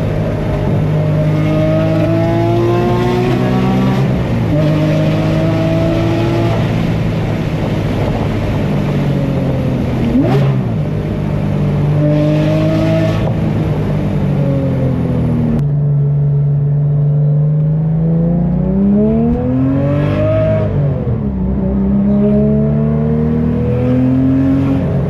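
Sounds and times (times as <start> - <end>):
sports car engine revving: 0.0 - 8.3, 9.1 - 15.6, 16.4 - 25.0.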